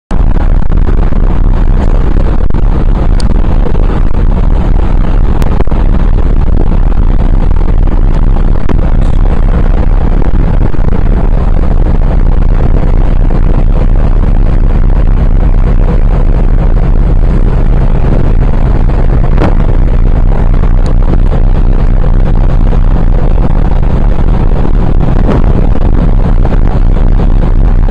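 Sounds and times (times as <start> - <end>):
ship engine rumble: 0.1 - 27.9
wind buffeting microphone: 0.1 - 27.9.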